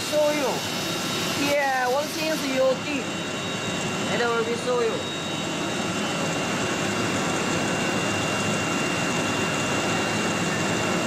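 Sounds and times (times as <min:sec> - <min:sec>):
high whine: 0:00.0 - 0:11.0
machinery hum: 0:00.0 - 0:11.0.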